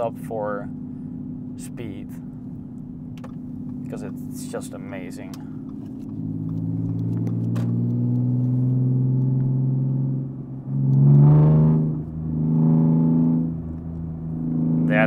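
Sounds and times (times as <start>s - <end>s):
car engine droning and revving: 0.0s - 15.0s.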